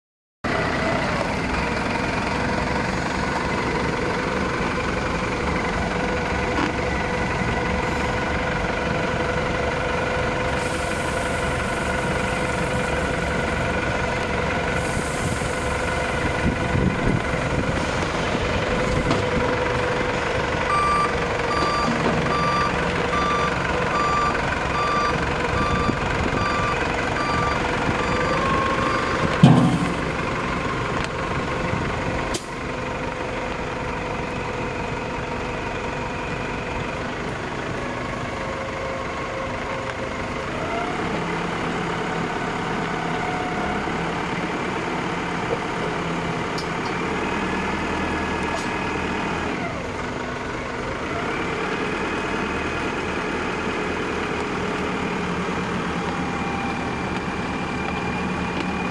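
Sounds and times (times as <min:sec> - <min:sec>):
loader engine running: 0:00.4 - 0:58.9.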